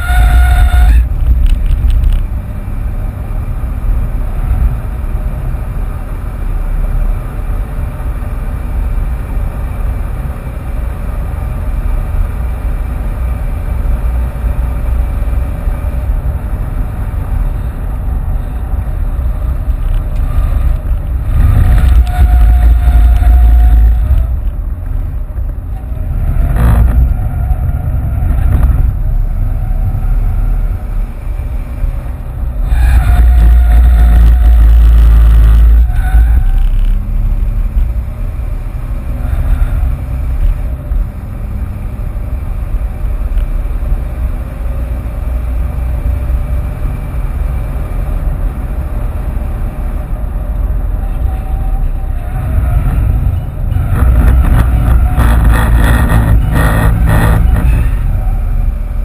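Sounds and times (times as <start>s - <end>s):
diesel car engine: 0.0s - 59.0s
road noise: 0.0s - 59.0s.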